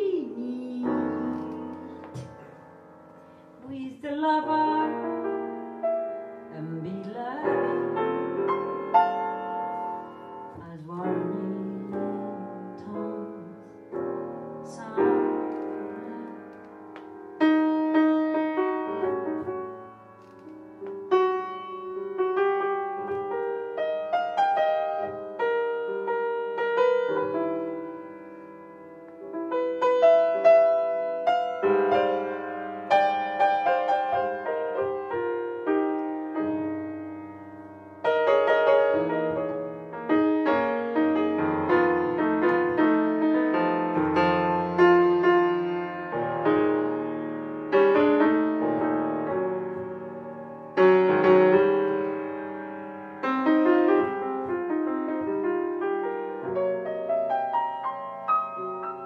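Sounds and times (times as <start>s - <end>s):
jazz piano ballad: 0.0s - 59.0s.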